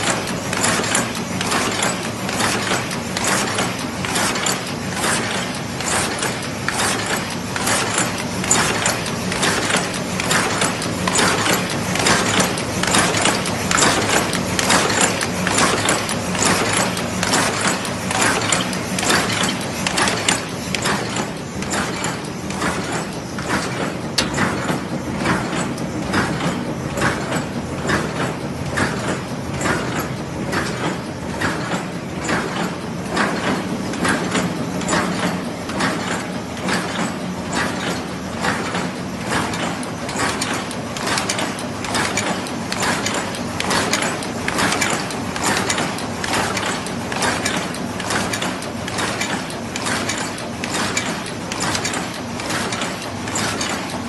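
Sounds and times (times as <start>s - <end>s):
machine clacking rhythmically: 0.0s - 54.0s.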